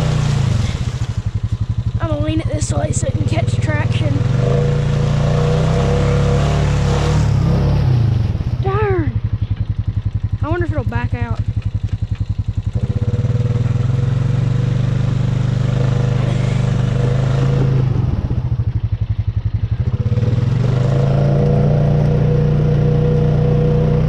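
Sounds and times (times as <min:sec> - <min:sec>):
atv engine revving and idling: 0:00.0 - 0:24.0.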